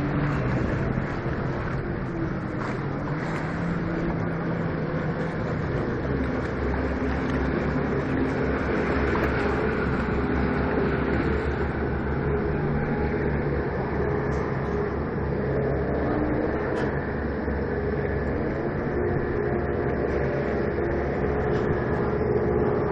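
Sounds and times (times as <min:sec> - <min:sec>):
outboard motors rumbling: 0:00.0 - 0:22.9
propellers churning water: 0:00.0 - 0:22.9.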